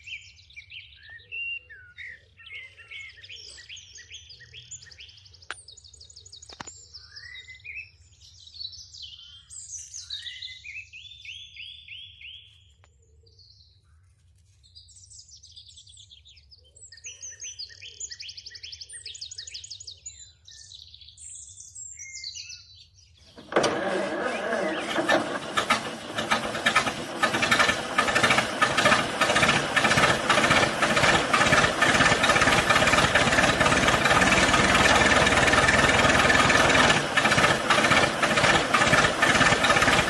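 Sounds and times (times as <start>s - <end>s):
birds chirping and singing: 0.0s - 14.1s, 14.7s - 23.6s, 24.3s - 40.0s.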